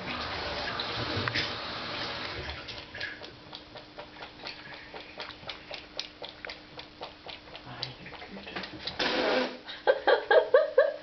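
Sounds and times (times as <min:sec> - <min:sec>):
cat lapping liquid: 0:00.3 - 0:09.5.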